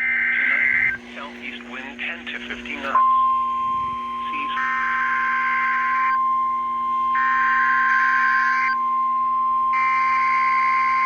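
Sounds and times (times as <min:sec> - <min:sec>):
steady high warning tone: 0:00.0 - 0:11.0.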